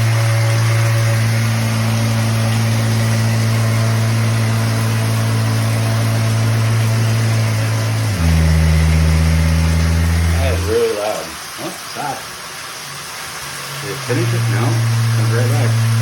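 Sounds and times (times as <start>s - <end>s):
plumbing vibrating hum: 0.0s - 16.0s
shower water hissing: 0.0s - 16.0s.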